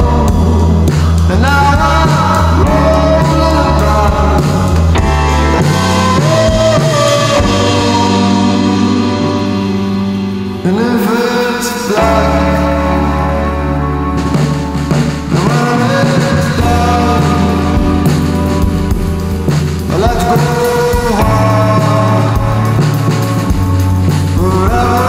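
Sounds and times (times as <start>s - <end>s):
indie rock band playing: 0.0s - 25.0s
person singing: 0.0s - 25.0s.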